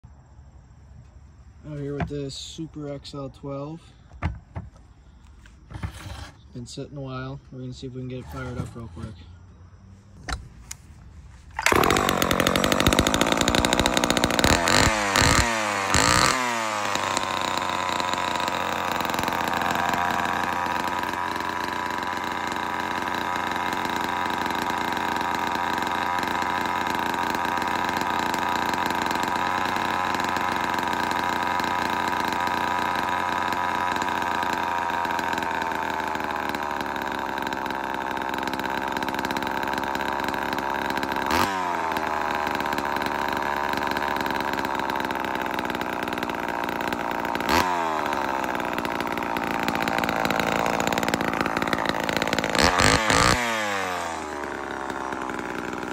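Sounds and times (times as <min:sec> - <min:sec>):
chainsaw engine revving: 0:07.9 - 0:09.4, 0:11.3 - 0:55.9.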